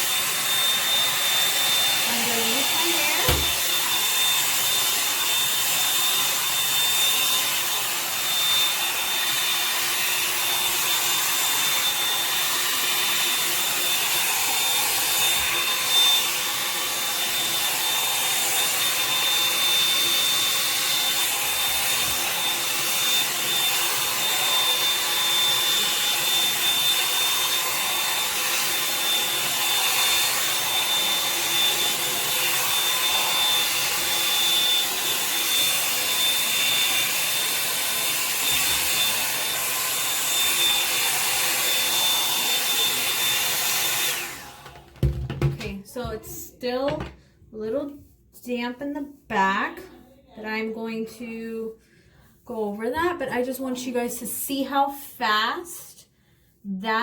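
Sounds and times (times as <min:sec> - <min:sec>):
hair dryer brush blowing: 0:00.0 - 0:47.1.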